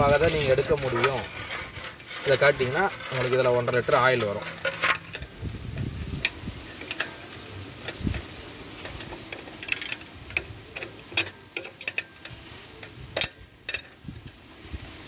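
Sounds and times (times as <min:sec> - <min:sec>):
wrench clicking and scraping on bolt: 0:00.0 - 0:14.0.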